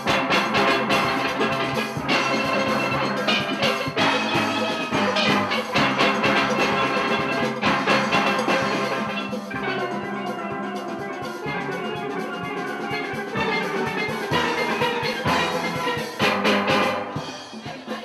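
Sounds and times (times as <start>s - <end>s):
steelpans playing melody: 0.0s - 17.6s
steady percussion beat: 0.0s - 18.0s.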